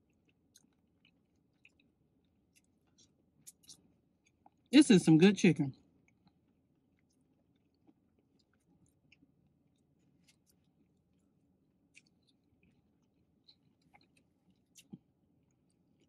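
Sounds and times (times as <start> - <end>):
faint chewing and mouth clicks: 0.0 - 4.7, 5.8 - 16.0.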